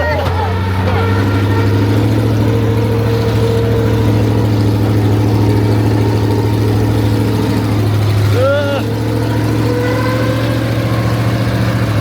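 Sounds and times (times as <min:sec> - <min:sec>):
truck engine deep drone: 0:00.0 - 0:12.0.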